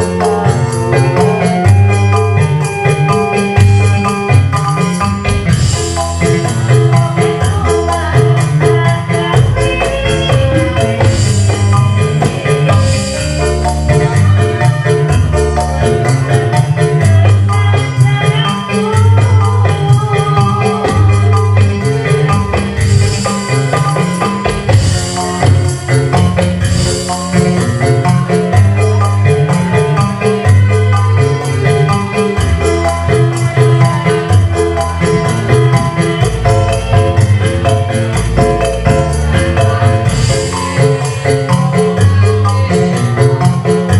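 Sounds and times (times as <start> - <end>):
band music: 0.0 - 43.9
bass line: 0.0 - 43.9
metallophone notes: 0.0 - 43.9.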